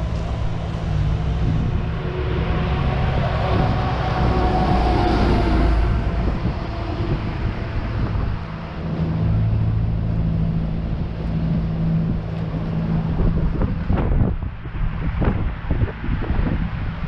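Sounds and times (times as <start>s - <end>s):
vehicle engines humming: 0.0s - 17.0s.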